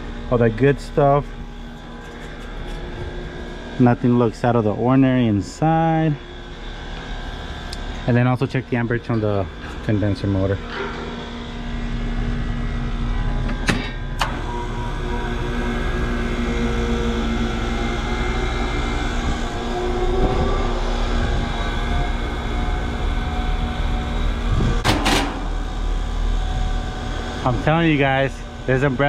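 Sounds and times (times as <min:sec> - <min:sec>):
air conditioner unit humming: 0:00.0 - 0:29.0.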